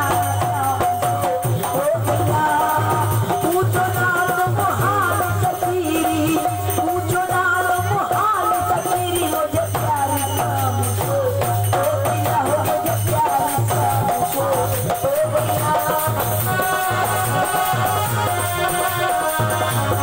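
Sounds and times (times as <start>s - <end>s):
harmonium: 0.0s - 20.0s
steady drum beat: 0.0s - 20.0s
woman singing: 0.0s - 20.0s.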